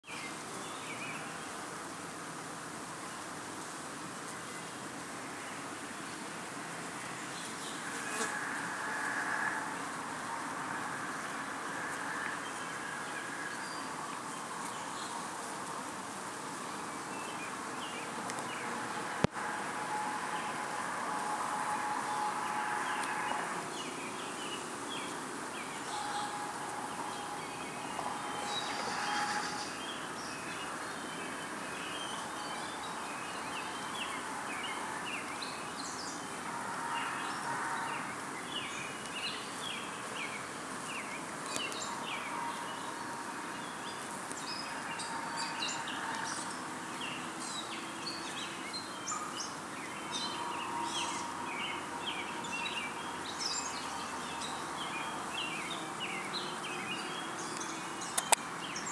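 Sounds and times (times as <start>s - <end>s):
steady background hiss: 0.1s - 58.9s.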